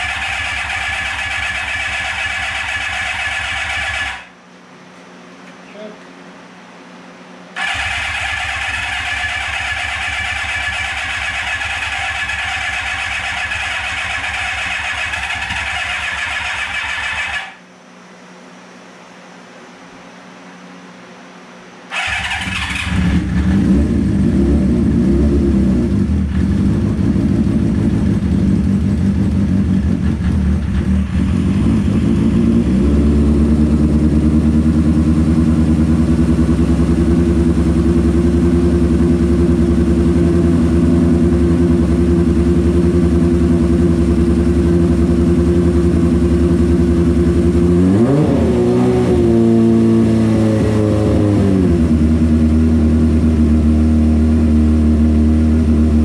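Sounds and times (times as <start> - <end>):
motorcycle engine idling and revving: 0.0 - 4.4, 7.6 - 17.6, 21.9 - 56.0.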